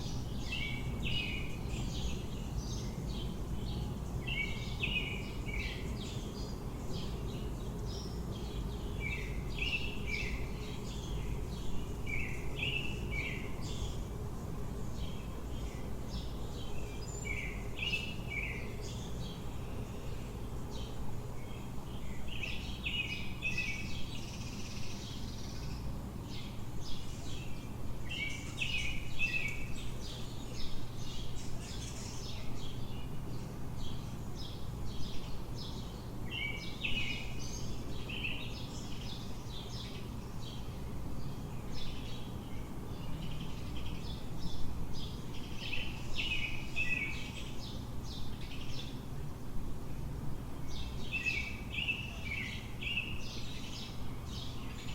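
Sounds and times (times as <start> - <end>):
low city hum: 0.0 - 54.9
songbirds chirping: 0.0 - 54.9.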